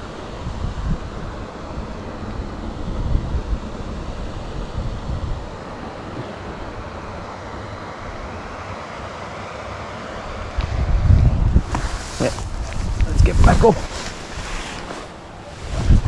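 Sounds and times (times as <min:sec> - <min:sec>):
wind buffeting microphone: 0:00.0 - 0:07.3, 0:10.3 - 0:16.0.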